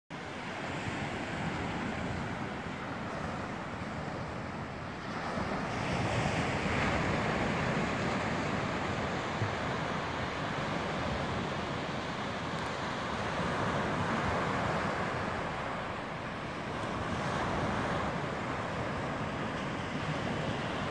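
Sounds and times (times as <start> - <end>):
surf washing onto beach: 0.2 - 20.9
wind buffeting microphone: 0.2 - 20.9.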